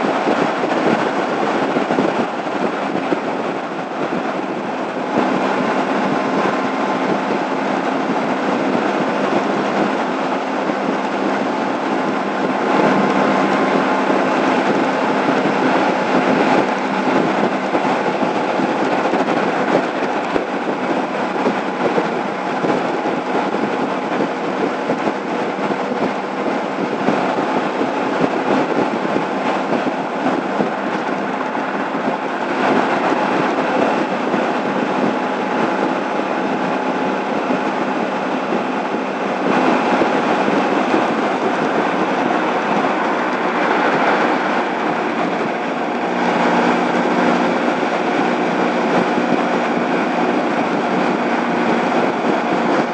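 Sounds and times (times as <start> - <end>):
motorcycle engine running: 0.0 - 52.9
road noise: 0.0 - 52.9
wind rush: 0.0 - 52.9.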